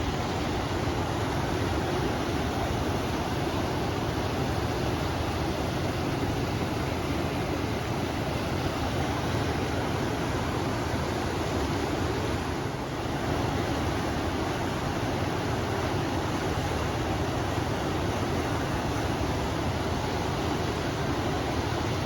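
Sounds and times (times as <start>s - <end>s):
river water rushing: 0.0s - 22.0s
wind: 0.0s - 22.0s.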